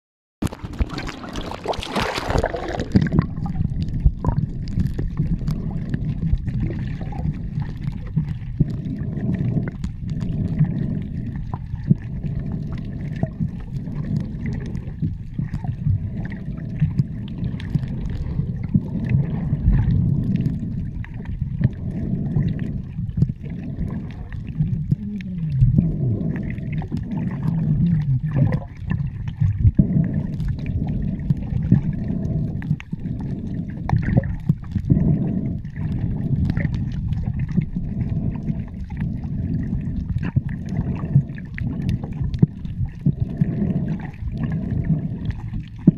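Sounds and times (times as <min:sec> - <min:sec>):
muffled underwater sound: 0:00.4 - 0:45.9
sea water splashing: 0:00.4 - 0:45.9.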